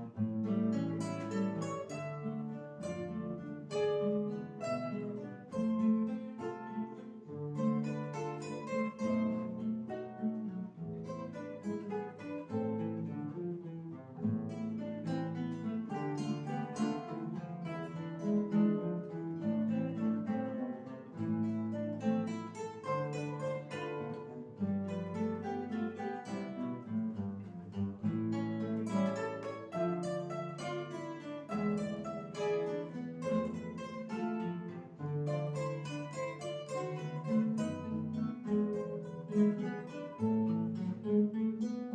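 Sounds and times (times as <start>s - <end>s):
classical guitars playing: 0.0s - 41.9s.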